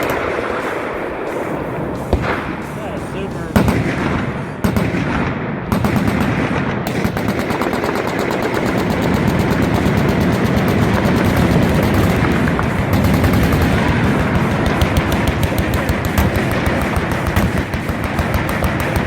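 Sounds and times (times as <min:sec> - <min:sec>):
machine guns firing: 0:00.0 - 0:19.0.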